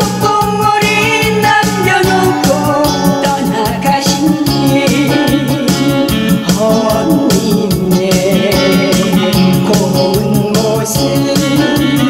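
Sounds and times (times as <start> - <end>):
backing track with steady beat: 0.0 - 12.0
woman singing into a microphone: 0.0 - 12.0.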